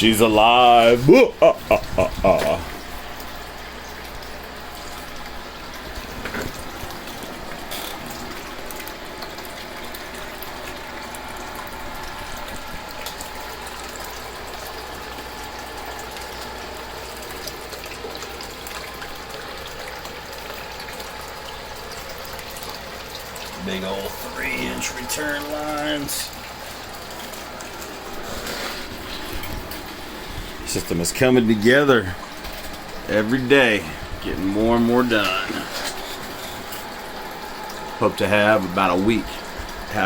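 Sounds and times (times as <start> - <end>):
water pouring and splashing: 0.0 - 40.0.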